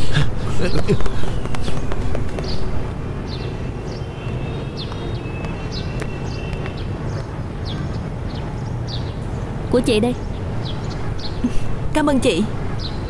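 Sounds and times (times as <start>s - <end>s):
passing traffic rumble: 0.0s - 13.0s.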